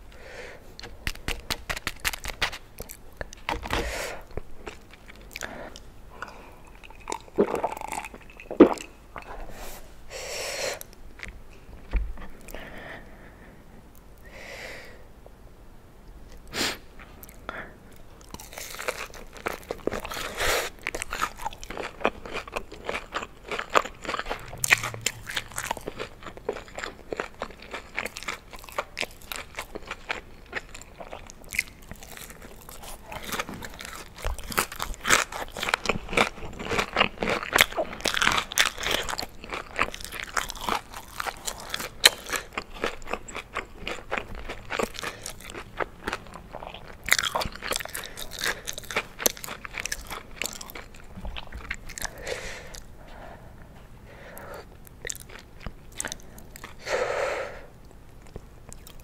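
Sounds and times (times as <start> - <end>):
chewing crunchy food: 0.8 - 9.5, 17.0 - 53.0, 54.4 - 57.0, 57.8 - 59.0.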